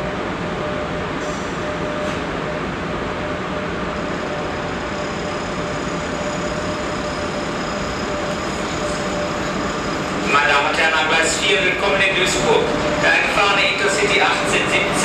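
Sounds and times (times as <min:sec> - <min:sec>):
electric locomotive droning: 0:00.0 - 0:15.0.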